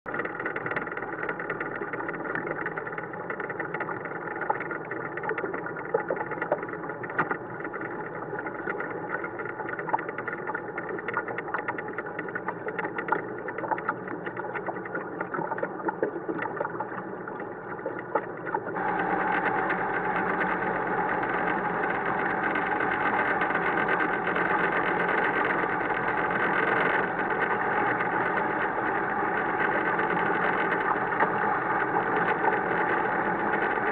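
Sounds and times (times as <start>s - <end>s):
boat engine hum: 0.0s - 33.9s.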